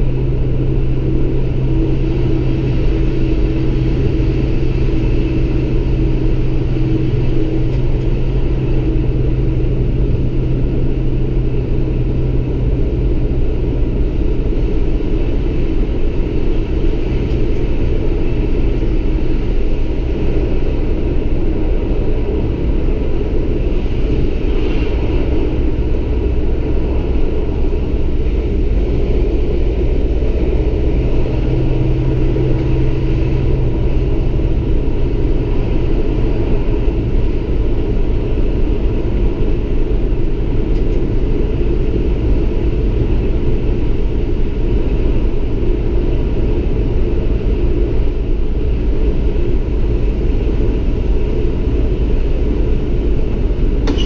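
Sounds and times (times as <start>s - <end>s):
diesel engine drone: 0.0s - 54.0s
train rumbling on track: 0.0s - 54.0s.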